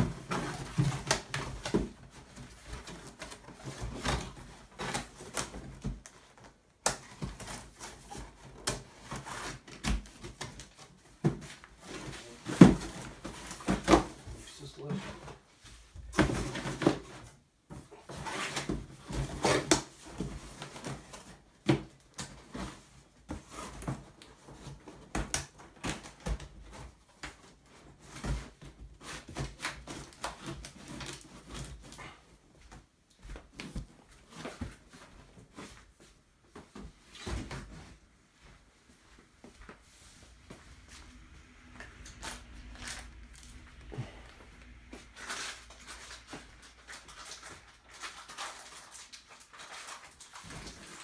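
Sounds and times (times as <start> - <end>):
plastic bags and foam rustling: 0.0 - 51.0.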